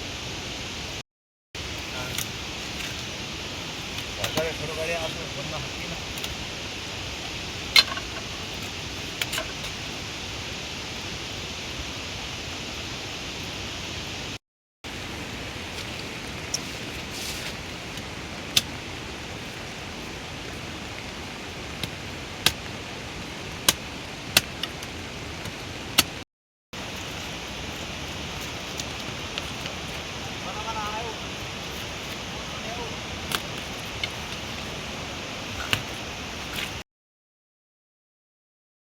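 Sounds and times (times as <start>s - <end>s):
heavy rain hiss: 0.0s - 1.0s, 1.6s - 26.2s, 26.8s - 36.8s.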